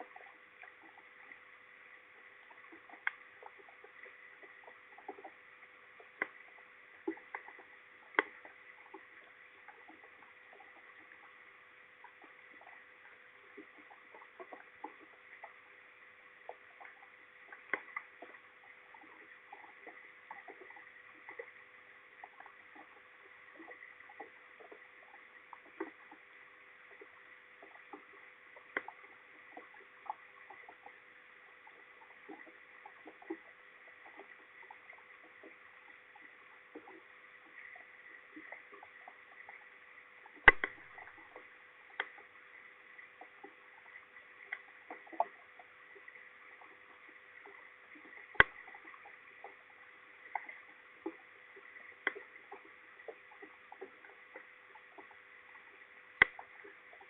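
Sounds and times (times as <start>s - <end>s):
faint electronic whine: 0.0s - 57.0s.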